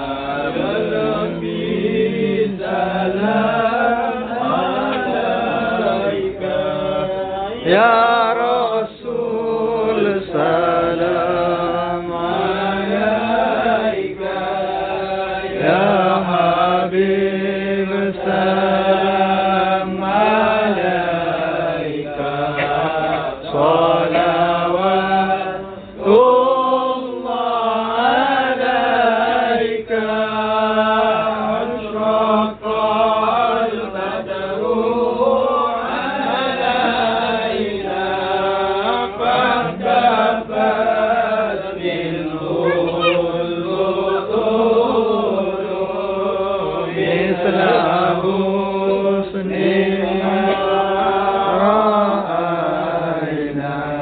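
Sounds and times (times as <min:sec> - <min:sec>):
men chanting together: 0:00.0 - 0:54.0.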